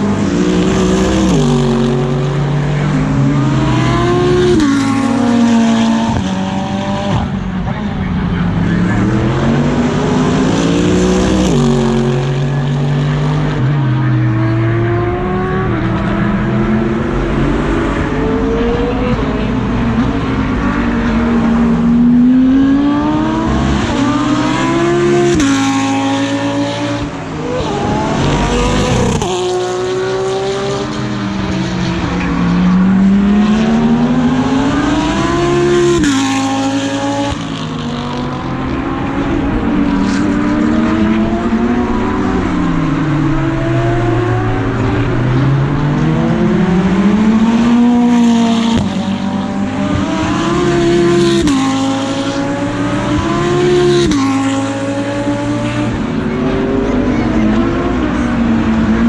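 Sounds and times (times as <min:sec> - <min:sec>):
race car engine shifting gears: 0:08.5 - 0:59.0.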